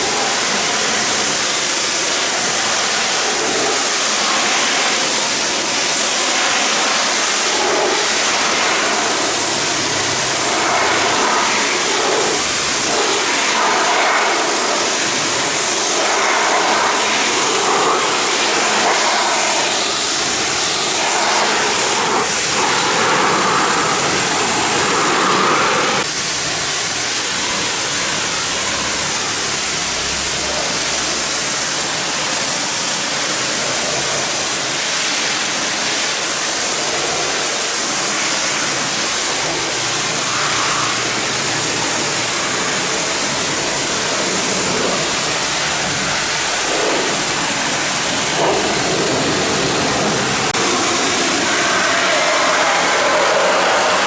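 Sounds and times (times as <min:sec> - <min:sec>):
pressure washer spraying water: 0:00.0 - 0:54.0.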